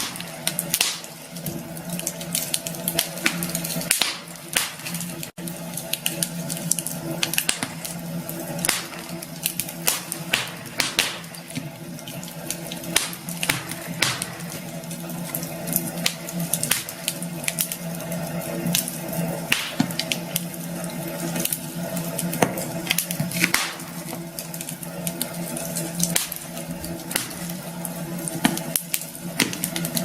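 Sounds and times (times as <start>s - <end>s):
campfire crackling and popping: 0.0s - 30.0s
hiss of burning wood: 0.0s - 30.0s.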